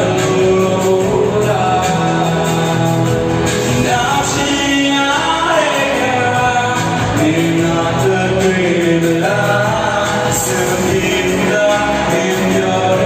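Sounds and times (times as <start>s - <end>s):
instrumental backing music: 0.0s - 13.0s
man singing into a microphone: 0.0s - 13.0s.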